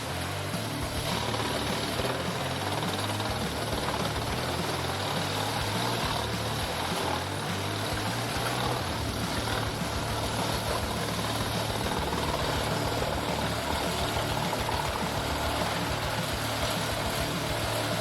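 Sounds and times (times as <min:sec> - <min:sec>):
wood-crushing machine engine humming: 0:00.0 - 0:18.0.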